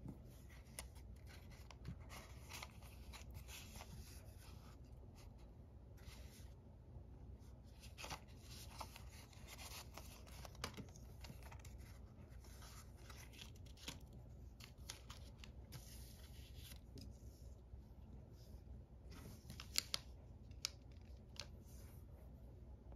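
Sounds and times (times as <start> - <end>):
paper rustling: 0.3 - 6.5, 7.7 - 17.4, 19.1 - 21.9.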